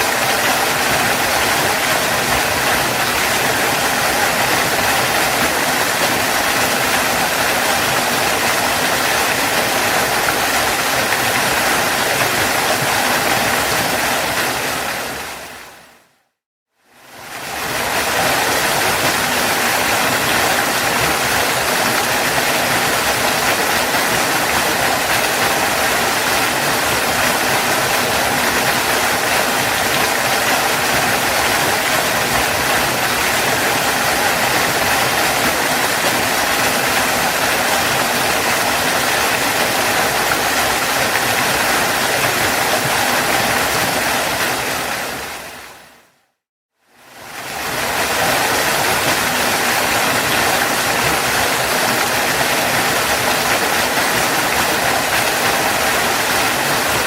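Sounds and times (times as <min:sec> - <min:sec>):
waterfall roaring: 0:00.0 - 0:16.0, 0:17.1 - 0:46.0, 0:47.0 - 0:57.0.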